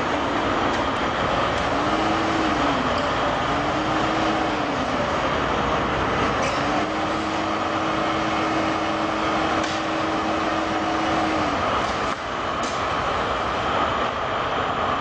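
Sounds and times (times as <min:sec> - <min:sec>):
wheel loader engine with whine: 0:00.0 - 0:15.0.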